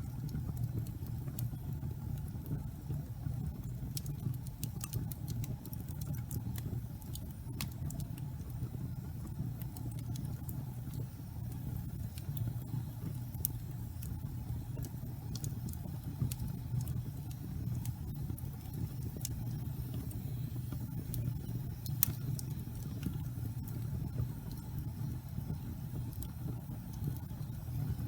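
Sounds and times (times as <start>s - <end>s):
burning logs crackling and popping: 0.0s - 28.0s
low rumble of flames: 0.0s - 28.0s.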